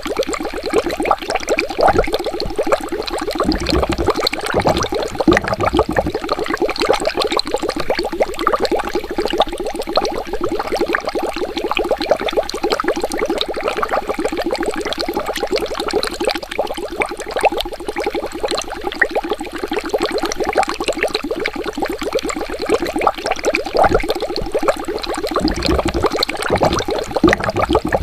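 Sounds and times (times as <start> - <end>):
water bubbling and gurgling: 0.0 - 28.0.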